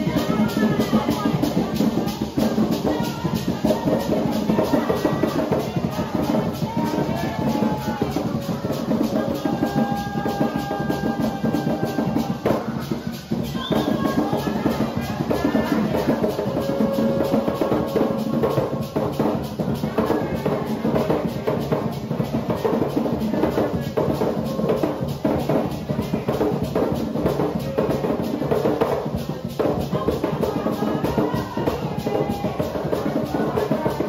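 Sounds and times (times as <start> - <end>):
group of voices singing: 0.0 - 34.0
hand drums playing: 0.0 - 34.0.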